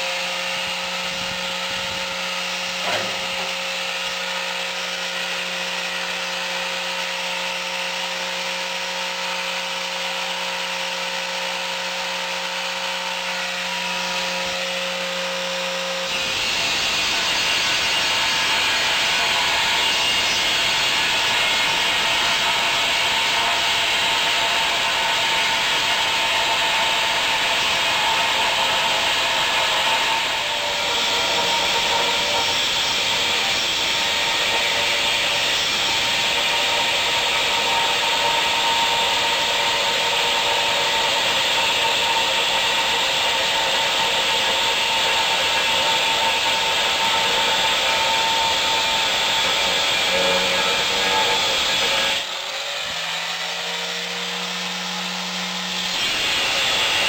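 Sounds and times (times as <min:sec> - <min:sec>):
angle grinder cutting steel: 0:00.0 - 0:57.0.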